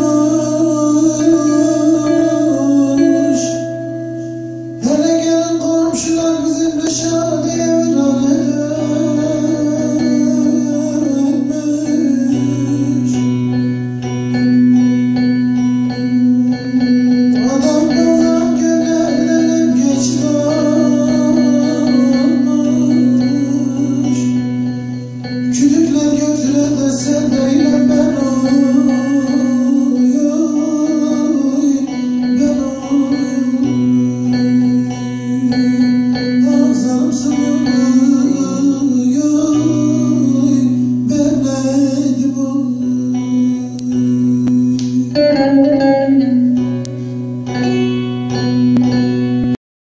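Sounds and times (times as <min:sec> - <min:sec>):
plucked lute folk melody: 0:00.0 - 0:49.6.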